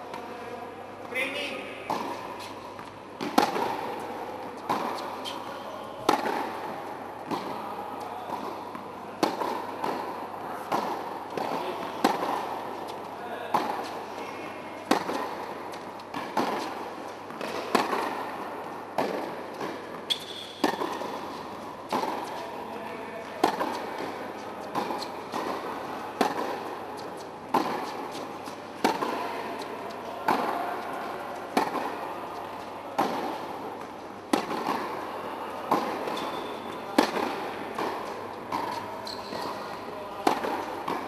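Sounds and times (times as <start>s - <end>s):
ball bouncing on hard court: 1.0s - 14.0s, 14.8s - 41.0s
racket hitting tennis ball: 1.0s - 41.0s.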